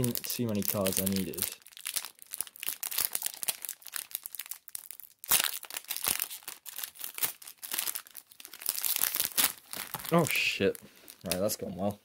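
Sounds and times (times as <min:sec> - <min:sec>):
trading cards rustling: 0:00.0 - 0:11.8.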